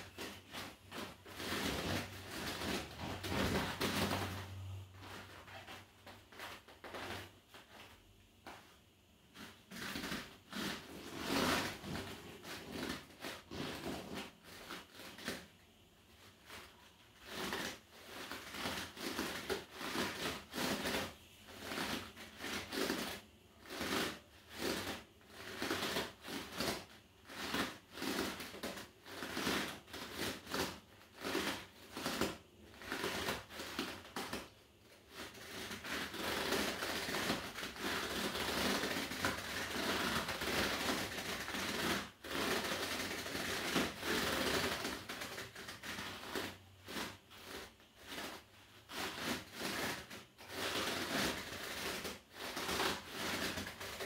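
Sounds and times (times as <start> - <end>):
rubber disc creaking under feet: 0.0 - 15.6, 16.2 - 54.0.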